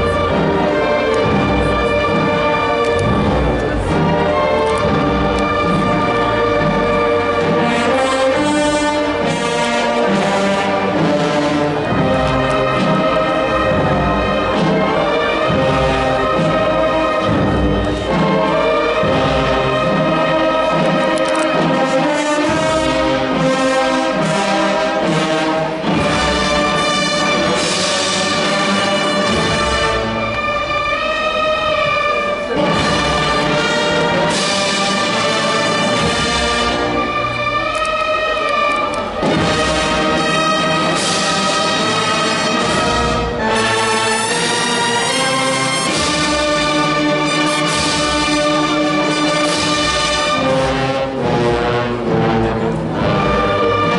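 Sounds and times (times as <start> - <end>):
brass band playing funeral march: 0.0 - 53.9.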